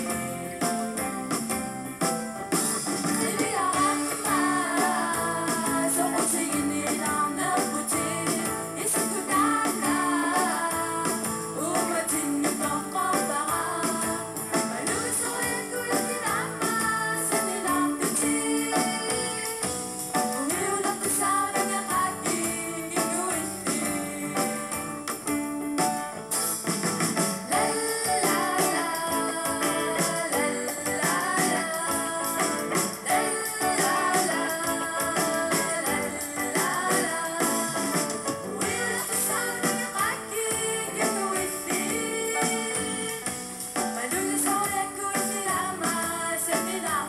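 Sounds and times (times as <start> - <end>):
live band playing: 0.0 - 47.0
person singing: 2.9 - 26.1, 27.5 - 47.0.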